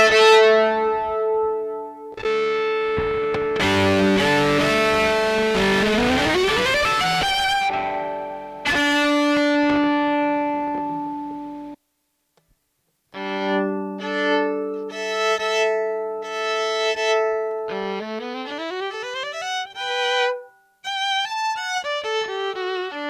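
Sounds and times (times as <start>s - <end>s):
electric violin played bowed: 0.0s - 11.8s, 13.1s - 23.0s.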